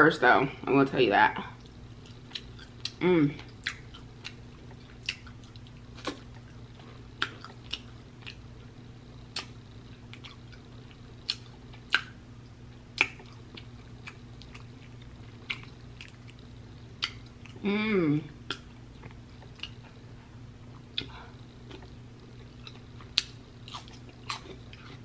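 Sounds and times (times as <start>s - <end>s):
faint low hum: 0.0s - 25.0s
wet chewing and mouth smacks: 1.6s - 6.6s, 7.2s - 8.4s, 9.3s - 17.6s, 18.4s - 20.0s, 20.7s - 25.0s.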